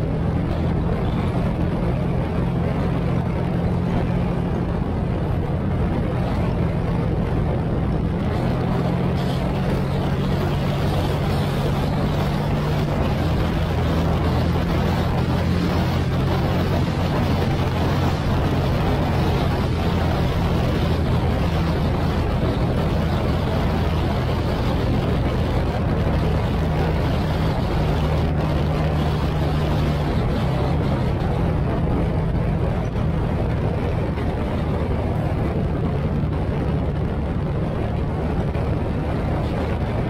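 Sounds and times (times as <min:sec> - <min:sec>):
motorcycle engine running: 0:00.0 - 0:40.0
wind over microphone: 0:00.0 - 0:40.0.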